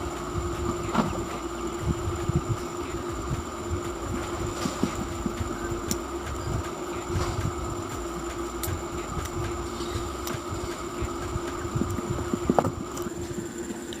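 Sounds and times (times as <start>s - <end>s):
table fan motor hum: 0.0s - 14.0s.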